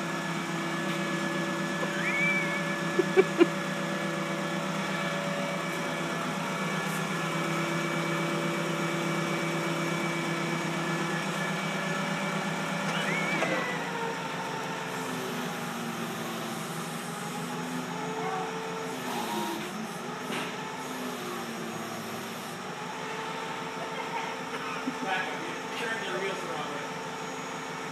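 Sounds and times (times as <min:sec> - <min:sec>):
forklift engine running: 0:00.0 - 0:27.9.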